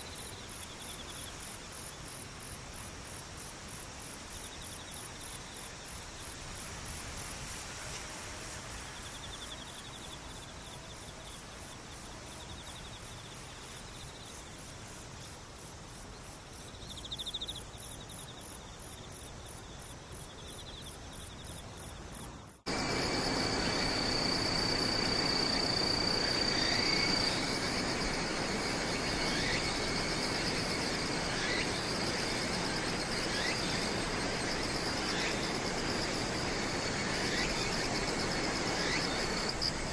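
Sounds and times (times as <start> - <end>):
insect chorus with high trill: 0.0 - 39.9
insects chirping: 0.0 - 39.9.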